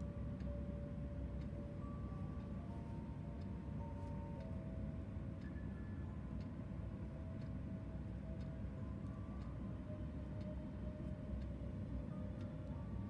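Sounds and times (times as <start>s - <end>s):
quiet background music: 0.0s - 13.0s
steady low hum: 0.0s - 13.0s.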